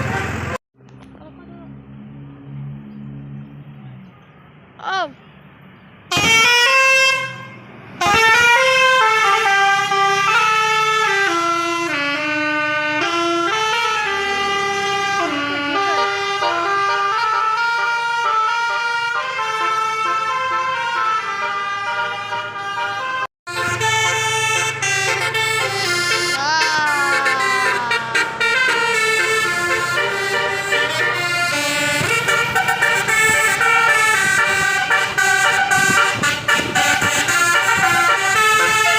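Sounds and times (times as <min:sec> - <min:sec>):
musical bus horn tune: 0:00.0 - 0:00.6, 0:06.1 - 0:38.9.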